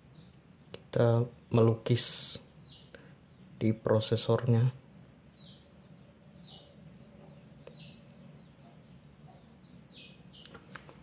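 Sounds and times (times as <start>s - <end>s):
small bird chirping: 0.0s - 4.7s, 5.3s - 11.0s.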